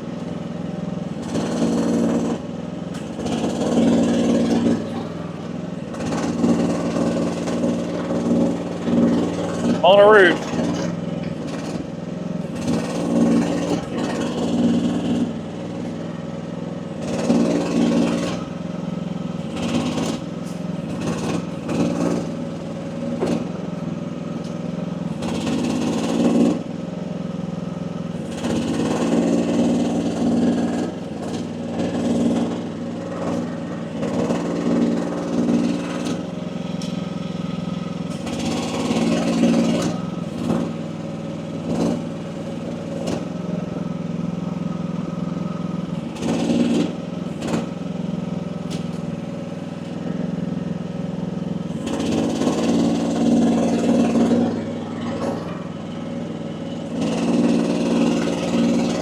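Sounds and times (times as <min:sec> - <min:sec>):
excavator engine and hydraulics: 0:00.0 - 0:59.0.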